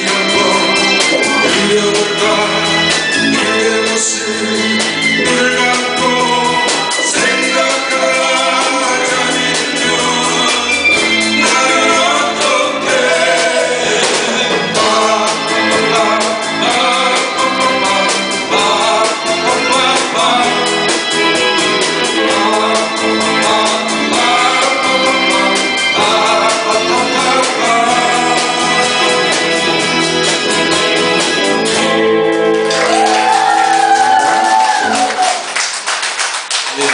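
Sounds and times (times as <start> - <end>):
keyboard: 0.0 - 35.2
steady beat: 0.0 - 35.2
person singing with live band: 0.0 - 35.5.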